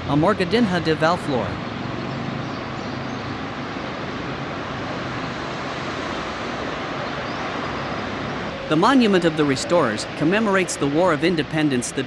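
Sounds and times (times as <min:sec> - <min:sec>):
road traffic cars passing: 0:00.0 - 0:12.0.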